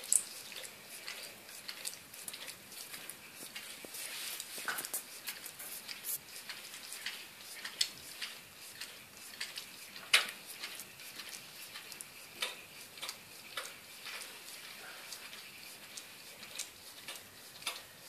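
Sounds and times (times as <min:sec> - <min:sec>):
dog licking fur: 0:00.1 - 0:16.7.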